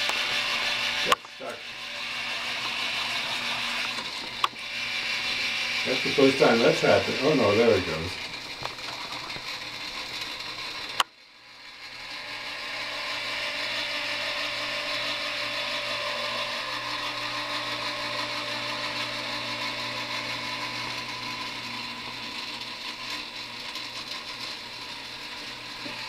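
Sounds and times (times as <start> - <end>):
mechanical whirring hum: 0.0 - 26.0.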